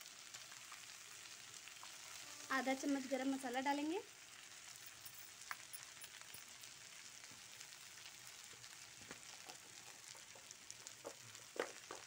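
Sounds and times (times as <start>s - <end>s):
potatoes and peas sizzling in oil: 0.0s - 12.0s.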